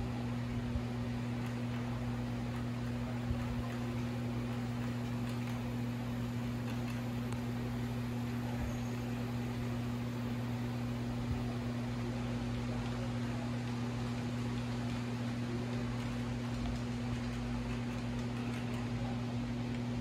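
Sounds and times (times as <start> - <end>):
constant low hum: 0.0 - 20.0
model train wheels rolling: 0.0 - 20.0.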